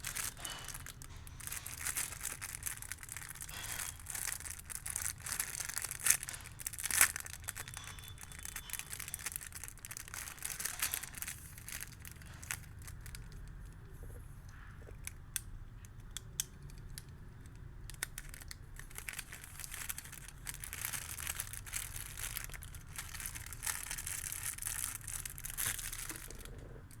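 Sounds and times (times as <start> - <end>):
packaging rustling and tearing: 0.0 - 13.7, 17.9 - 27.0
packaging clicking and snapping: 0.0 - 13.8, 14.9 - 27.0.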